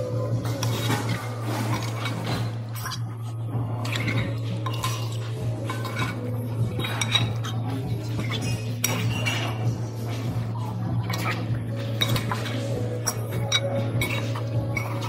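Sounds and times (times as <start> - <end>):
cutlery scraping ceramic bowl: 0.4 - 15.0.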